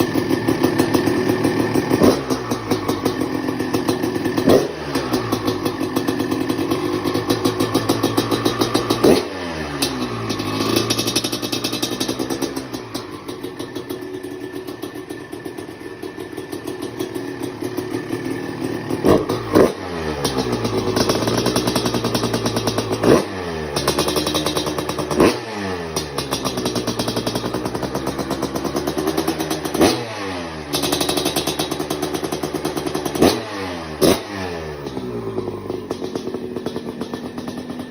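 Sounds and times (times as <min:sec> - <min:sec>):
two-stroke engine revving and idling: 0:00.0 - 0:37.9.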